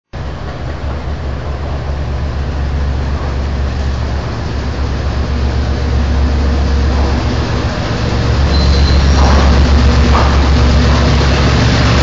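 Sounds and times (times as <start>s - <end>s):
locomotive engine rumble: 0.2s - 12.0s.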